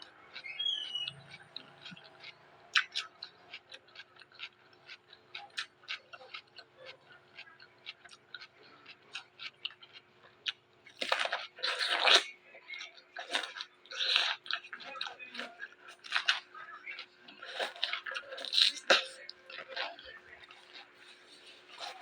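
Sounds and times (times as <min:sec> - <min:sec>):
chewing raw vegetables: 0:00.0 - 0:22.0.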